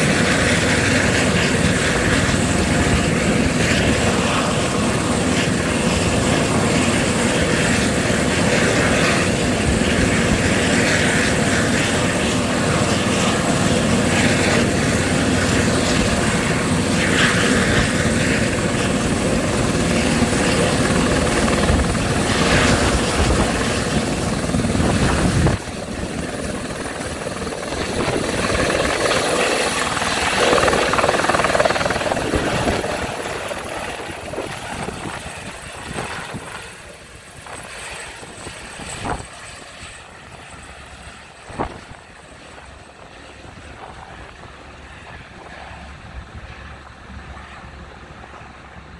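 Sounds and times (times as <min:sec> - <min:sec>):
helicopter engine and rotors: 0:00.0 - 0:48.9.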